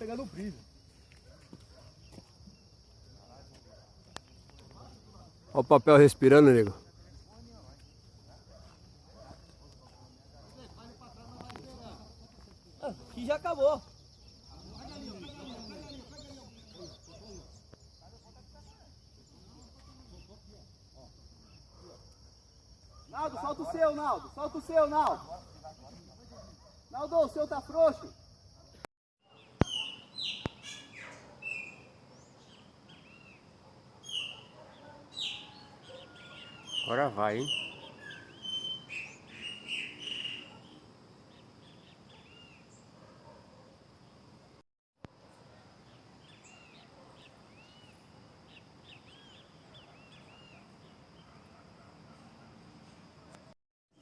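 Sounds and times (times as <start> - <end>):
birds chirping: 0.0 - 20.6, 21.2 - 44.4, 45.2 - 54.0.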